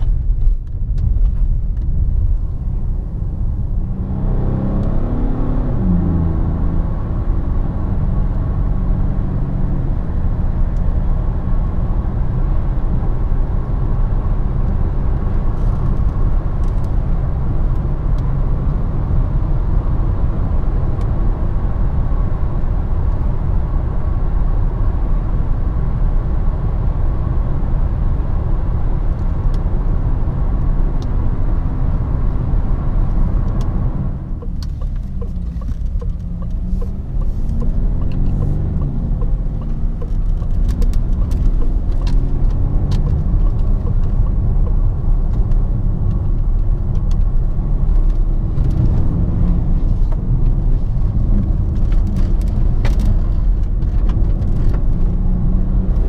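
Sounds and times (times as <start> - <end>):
diesel engine drone: 0.0 - 56.0
road and tyre rumble: 0.0 - 56.0.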